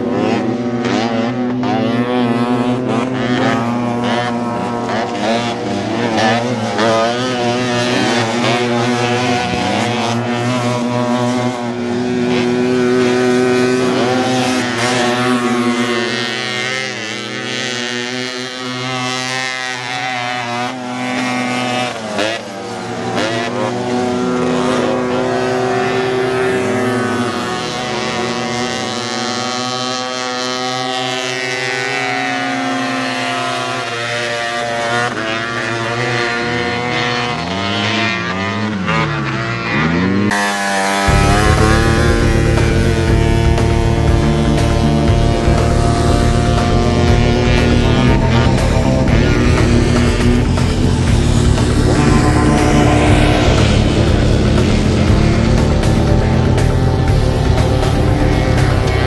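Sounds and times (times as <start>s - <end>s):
buggy engines revving: 0.0s - 59.0s.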